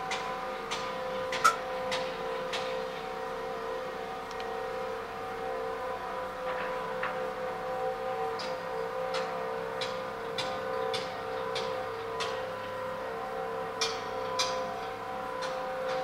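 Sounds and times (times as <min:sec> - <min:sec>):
droning hum: 0:00.0 - 0:15.4.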